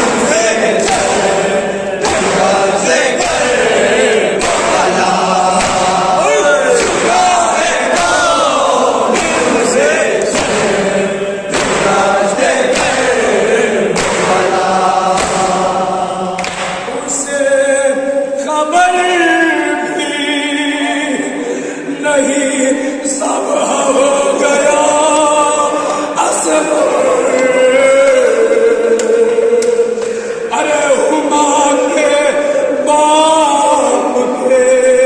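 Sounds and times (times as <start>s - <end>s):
group of men chanting: 0.0s - 35.0s
men singing a lament: 0.0s - 35.0s.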